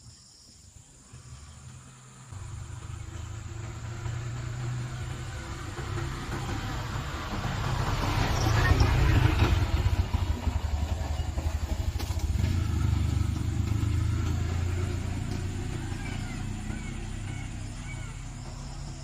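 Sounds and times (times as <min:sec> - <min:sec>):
vehicle engine rumble passing: 0:00.8 - 0:19.0.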